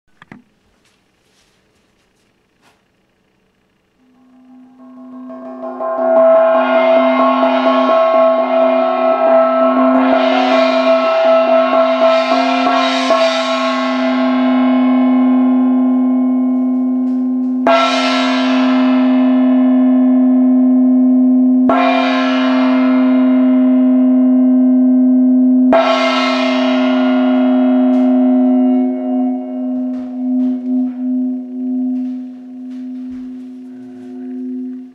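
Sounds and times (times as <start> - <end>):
steady low hum: 0.1 - 34.9
small gong ringing: 4.0 - 34.9.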